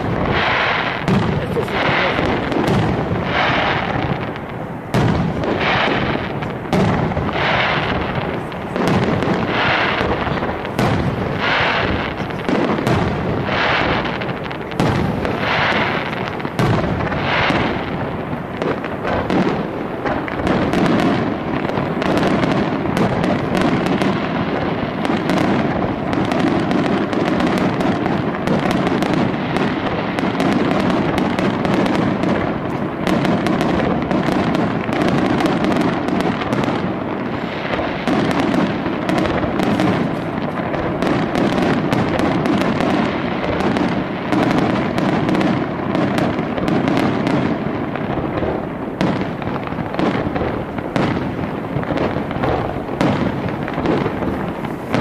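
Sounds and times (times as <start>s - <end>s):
firework shell bursts: 0.0s - 47.5s
fireworks bangs and crackling: 0.0s - 55.0s.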